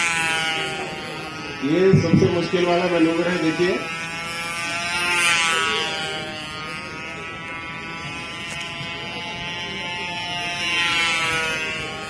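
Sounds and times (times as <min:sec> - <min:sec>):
model aeroplane engine buzzing: 0:00.0 - 0:12.0.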